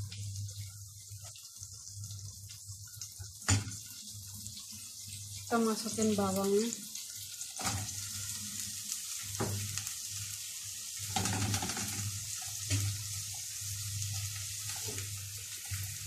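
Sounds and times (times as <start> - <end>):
leeks sizzling in butter: 0.0 - 16.0.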